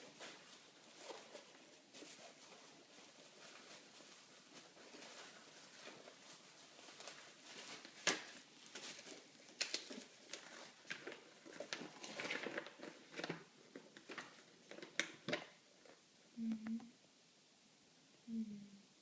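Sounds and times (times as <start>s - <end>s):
plastic packaging rustling: 0.0s - 16.0s.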